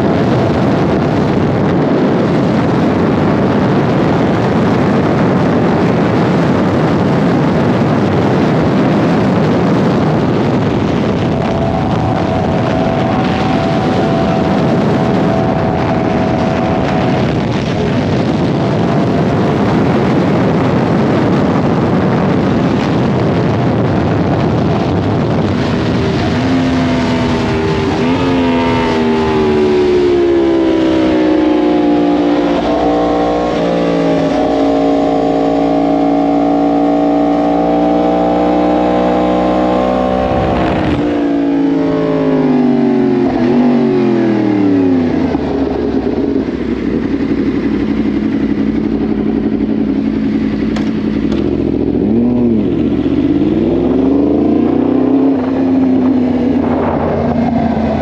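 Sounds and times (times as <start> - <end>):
motorcycle engine: 0.0 - 58.0
wind rush on microphone: 0.0 - 58.0.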